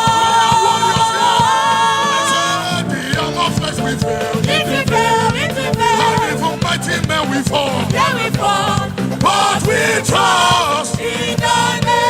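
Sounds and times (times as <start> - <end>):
band playing: 0.0 - 12.0
drums beating: 0.0 - 12.0
singers: 0.0 - 12.0.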